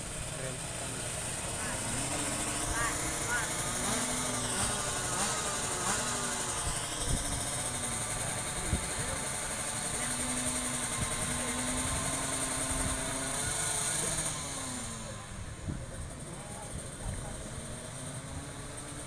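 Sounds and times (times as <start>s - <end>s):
two-stroke motorcycle engines revving: 0.0s - 19.0s.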